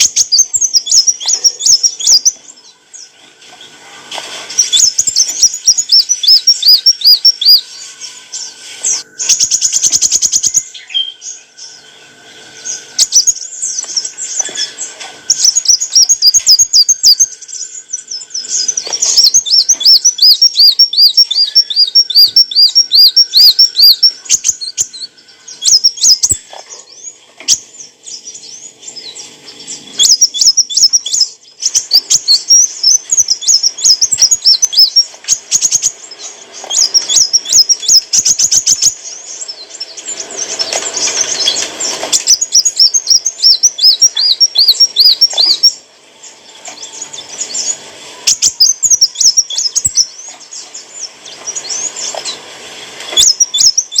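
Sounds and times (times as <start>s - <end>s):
bird chirping and trilling: 0.0s - 3.8s, 4.4s - 54.0s.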